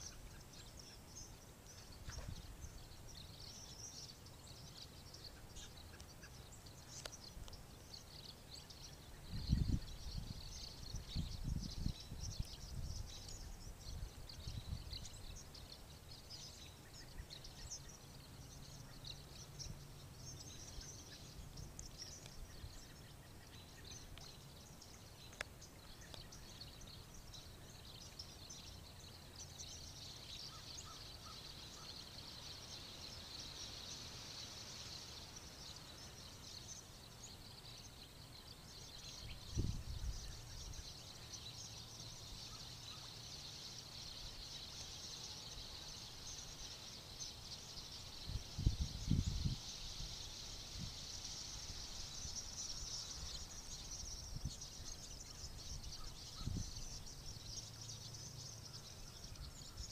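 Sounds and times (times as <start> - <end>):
flock of small birds chirping: 0.0 - 59.9.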